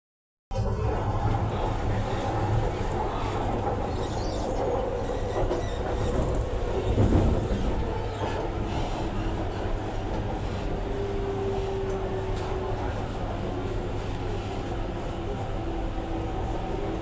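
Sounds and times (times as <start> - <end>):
train wheels rumbling: 0.6 - 17.0.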